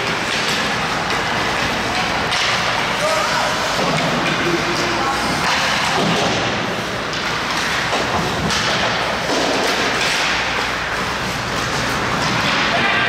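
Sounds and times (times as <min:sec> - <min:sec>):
ice hockey rink din: 0:00.0 - 0:13.0.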